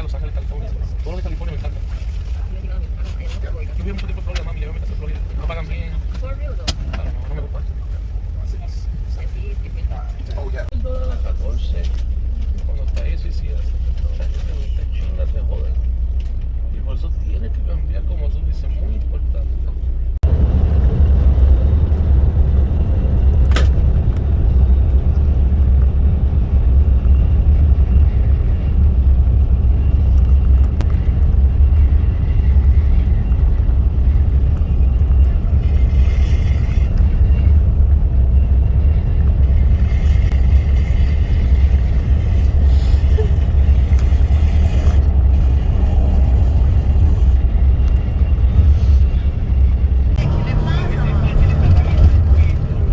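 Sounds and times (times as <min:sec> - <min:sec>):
coach engine and road rumble: 0:00.0 - 0:52.9.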